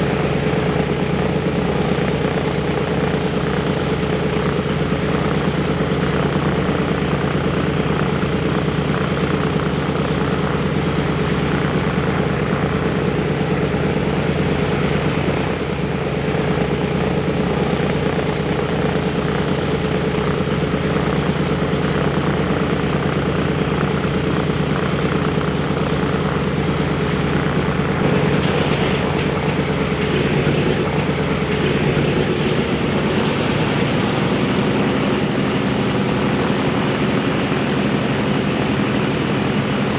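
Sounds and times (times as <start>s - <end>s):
propeller aircraft engines droning: 0.0s - 39.9s.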